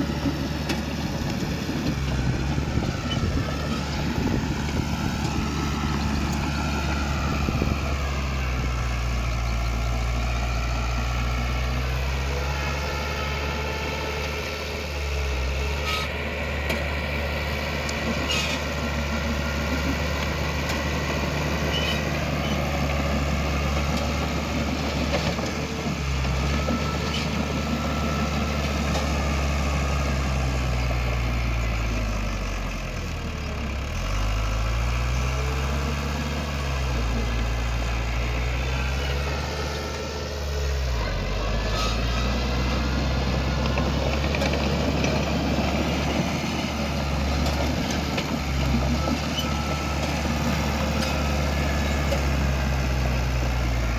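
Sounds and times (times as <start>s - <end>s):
heavy diesel machine engine running: 0.0s - 53.9s.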